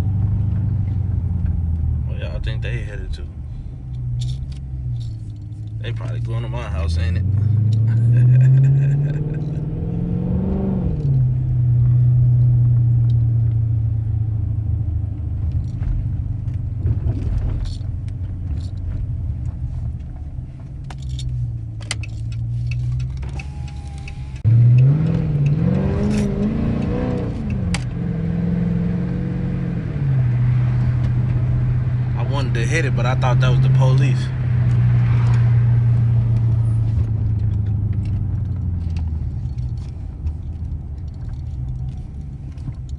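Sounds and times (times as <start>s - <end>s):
car engine accelerating and revving: 0.0s - 21.3s, 21.9s - 42.9s.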